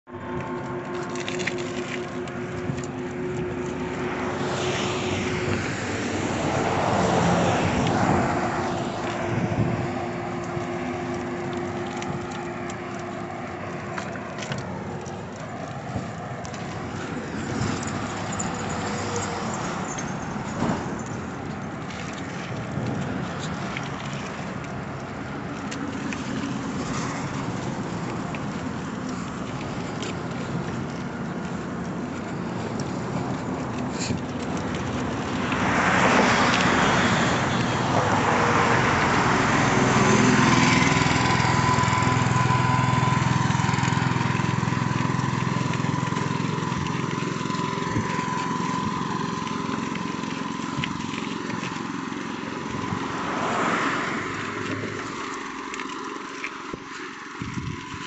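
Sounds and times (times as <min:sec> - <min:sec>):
highway traffic rushing past: 0:00.1 - 0:58.0.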